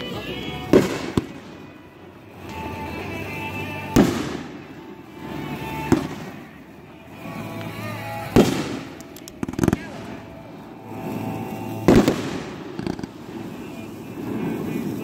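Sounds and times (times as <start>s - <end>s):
fireworks booming: 0.0s - 15.0s.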